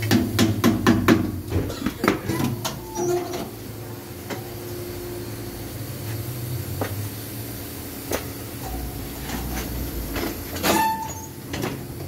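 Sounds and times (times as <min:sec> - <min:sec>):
steady low hum: 0:00.8 - 0:10.6.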